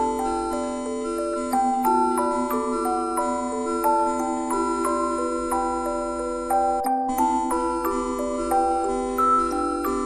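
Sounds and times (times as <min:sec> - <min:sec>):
synthesized bell-like melody: 0:00.0 - 0:10.0.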